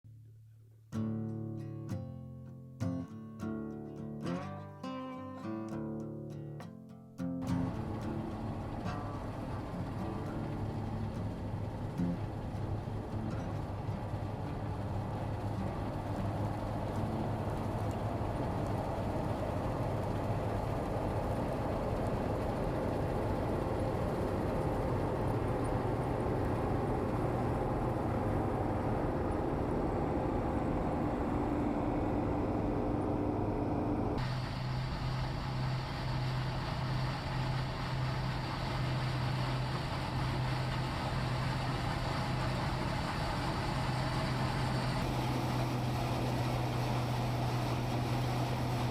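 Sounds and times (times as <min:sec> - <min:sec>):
harvesting machine engine running: 0:07.4 - 0:48.9.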